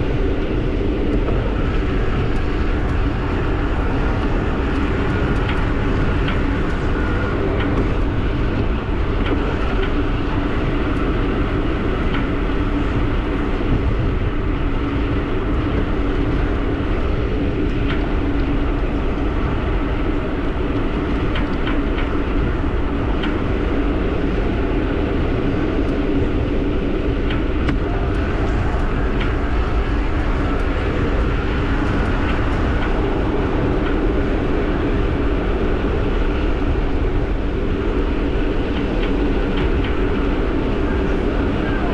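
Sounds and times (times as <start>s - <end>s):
steady hum: 0.0s - 41.9s
wind on microphone: 0.0s - 41.9s.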